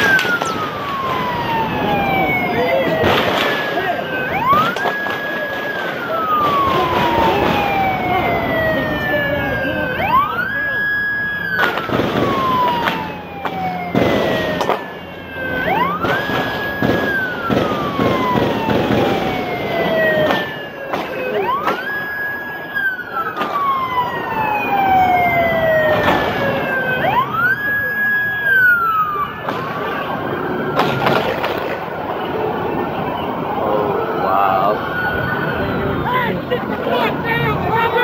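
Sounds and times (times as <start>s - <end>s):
police siren wailing: 0.0s - 38.0s.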